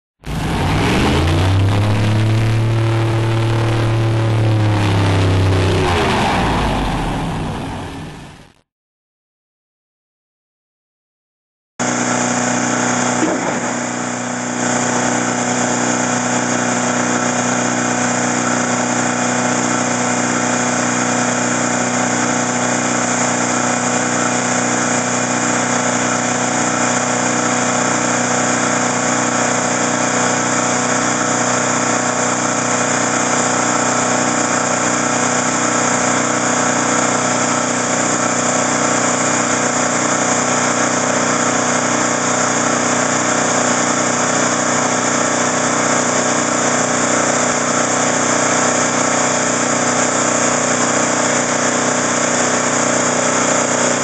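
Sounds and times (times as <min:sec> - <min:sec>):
boat engine running: 0:00.2 - 0:08.6, 0:11.8 - 0:54.0.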